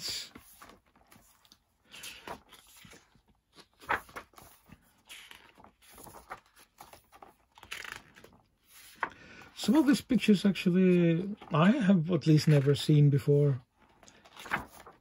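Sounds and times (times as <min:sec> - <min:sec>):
book pages rustling: 0:00.0 - 0:10.4, 0:11.2 - 0:15.0.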